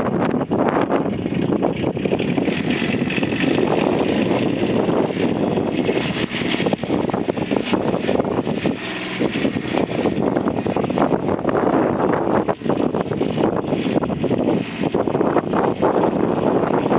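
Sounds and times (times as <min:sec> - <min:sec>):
utility vehicle engine running: 0:00.0 - 0:16.9
wind buffeting microphone: 0:00.0 - 0:16.9.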